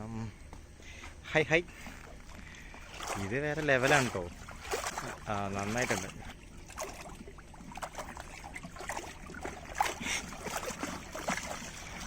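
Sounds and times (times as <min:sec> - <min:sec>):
water splashing around boat: 0:01.5 - 0:12.0.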